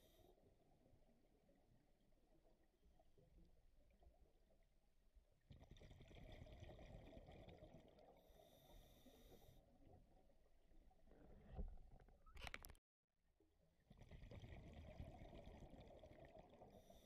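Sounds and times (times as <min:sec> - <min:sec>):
underwater bubbling and rumble: 0:00.2 - 0:12.6, 0:13.6 - 0:17.0.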